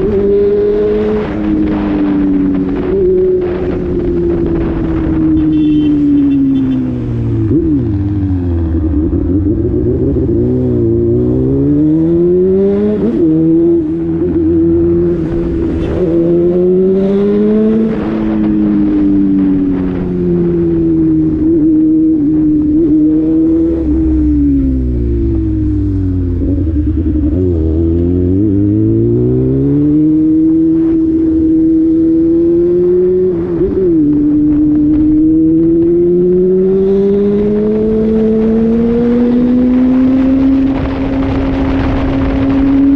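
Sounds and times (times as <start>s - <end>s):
engine revving: 0.0s - 42.9s.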